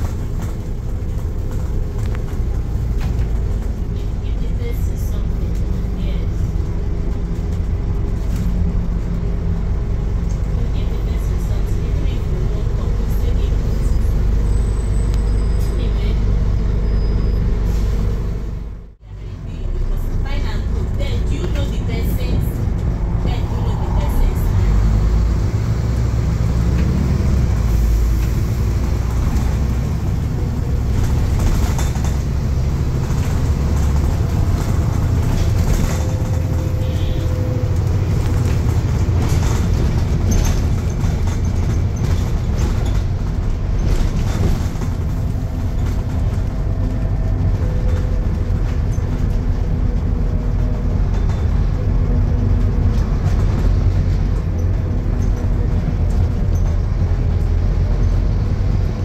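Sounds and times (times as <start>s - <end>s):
bus body rattles and clicks: 0.0s - 59.0s
bus engine and road rumble: 0.0s - 59.0s.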